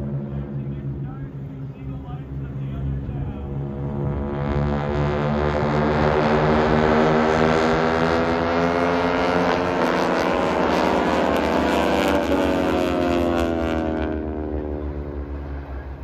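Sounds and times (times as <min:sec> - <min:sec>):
propeller airplanes droning overhead: 0:00.0 - 0:16.0.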